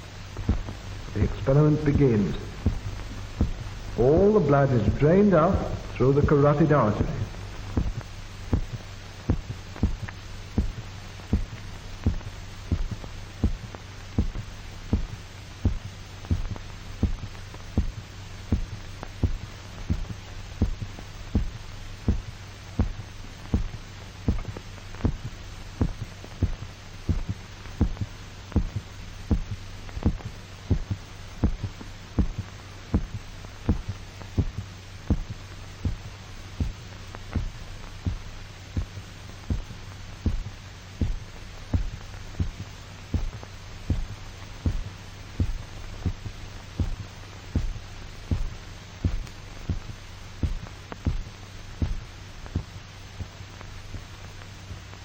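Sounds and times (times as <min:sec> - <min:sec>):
heartbeat thumps: 0:00.0 - 0:55.0
steady low hum: 0:00.0 - 0:55.0.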